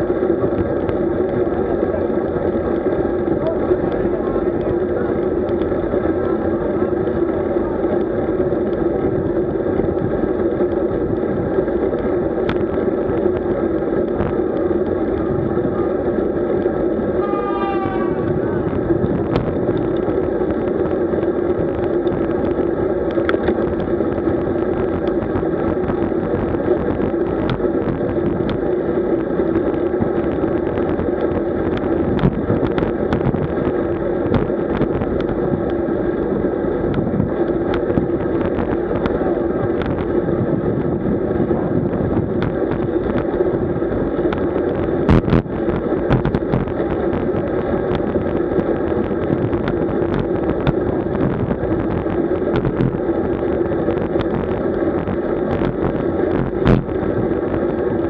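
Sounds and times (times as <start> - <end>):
road and wind noise: 0.0 - 58.0.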